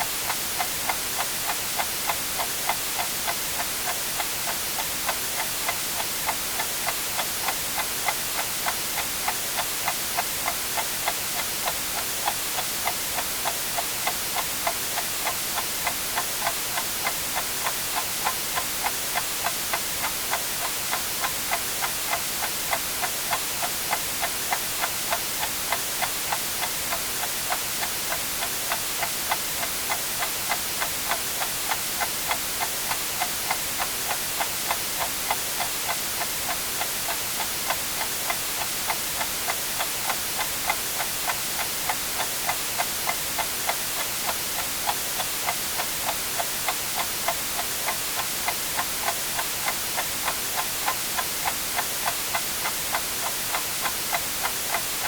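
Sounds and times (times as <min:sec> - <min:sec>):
white noise hiss: 0:00.0 - 0:55.0
clock ticking: 0:00.3 - 0:55.0.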